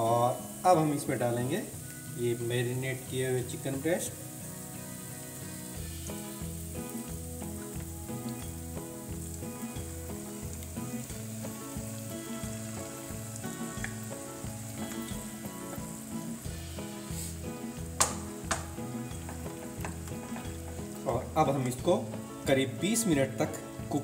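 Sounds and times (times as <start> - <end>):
onions sizzling in oil: 0.0 - 24.0
soft background music: 0.0 - 24.0.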